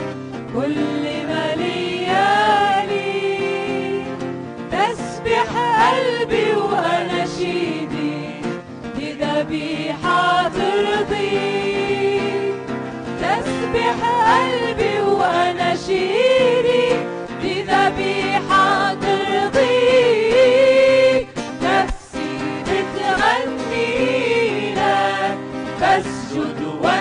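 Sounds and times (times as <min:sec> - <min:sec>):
person singing worship song: 0:00.0 - 0:27.0.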